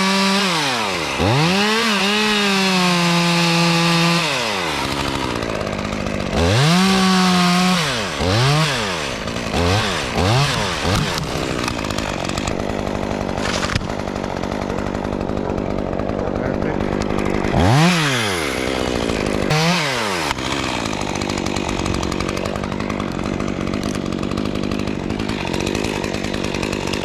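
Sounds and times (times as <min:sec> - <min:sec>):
chainsaw revving and idling: 0:00.0 - 0:27.0.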